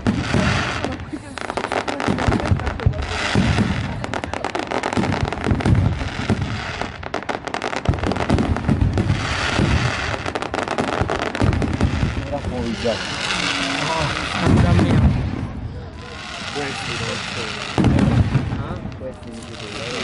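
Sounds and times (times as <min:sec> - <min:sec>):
fireworks low booms: 0:00.0 - 0:20.0
fireworks pops and crackles: 0:00.0 - 0:20.0.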